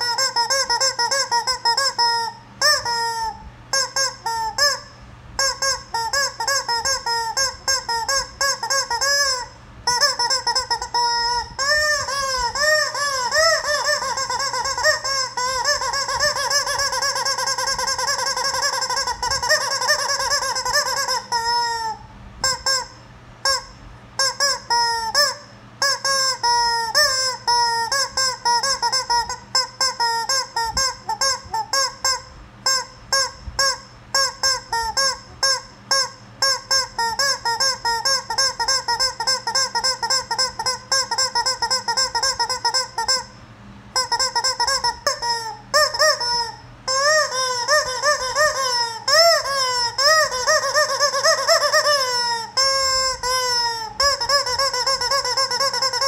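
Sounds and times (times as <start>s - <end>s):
rubber chicken toy squawking: 0.0s - 56.0s.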